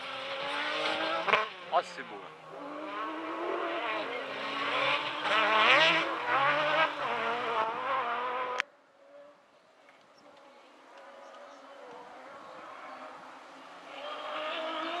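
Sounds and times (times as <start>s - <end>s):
rally car engine revving: 0.0s - 8.6s, 10.9s - 15.0s
faint distant engine: 0.0s - 15.0s.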